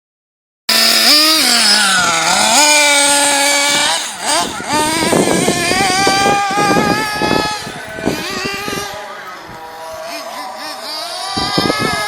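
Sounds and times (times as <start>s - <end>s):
rc nitro engine revving: 0.7s - 12.0s.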